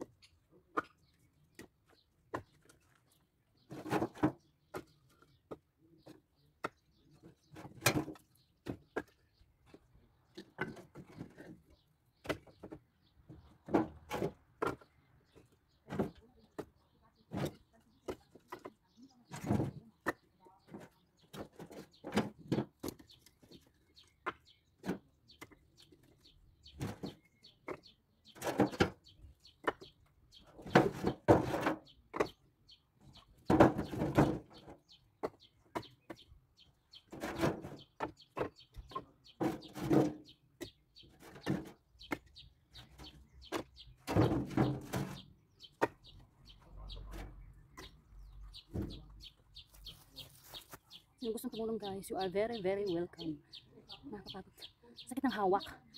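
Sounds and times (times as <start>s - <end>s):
firewood logs knocking together: 0.0s - 50.8s.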